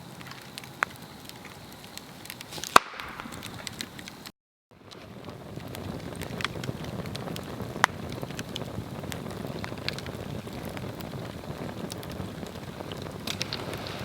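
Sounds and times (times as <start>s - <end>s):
fire crackles and pops: 0.0s - 14.0s
log fire rushing flame: 0.0s - 14.0s.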